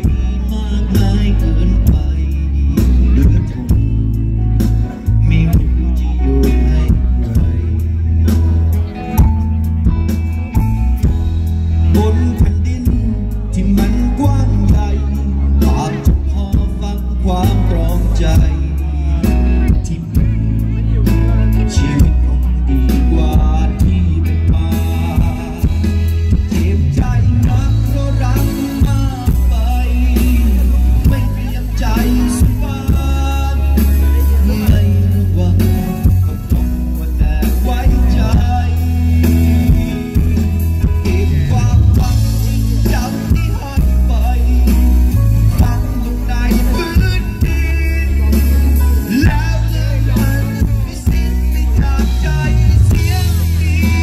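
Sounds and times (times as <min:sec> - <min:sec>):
electric guitar: 0:00.0 - 0:54.0
heavy bass line: 0:00.0 - 0:54.0
live band playing: 0:00.0 - 0:54.0
man singing into microphone: 0:00.0 - 0:54.0.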